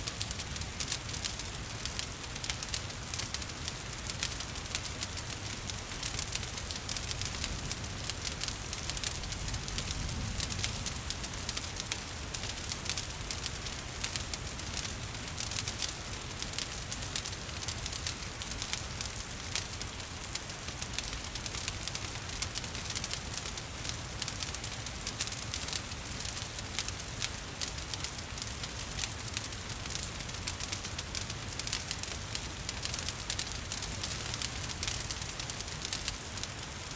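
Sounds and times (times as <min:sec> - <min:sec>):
gentle rain: 0:00.0 - 0:36.9
wood fire crackling: 0:00.0 - 0:36.9.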